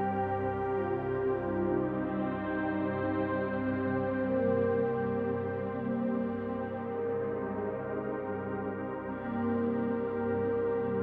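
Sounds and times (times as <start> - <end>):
slow ambient synthesizer music: 0.0 - 11.0.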